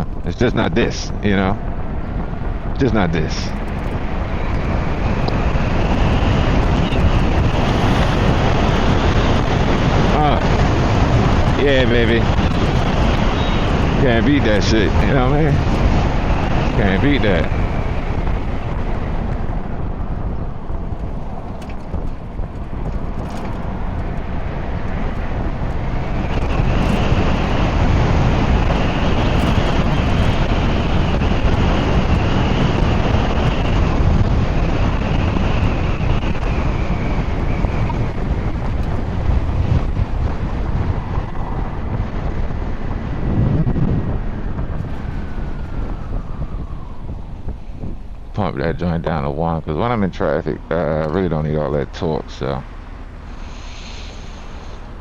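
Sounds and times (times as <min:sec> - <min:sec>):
wind rushing over microphone: 0:00.0 - 0:55.0
faint high electric motor whine: 0:01.2 - 0:55.0.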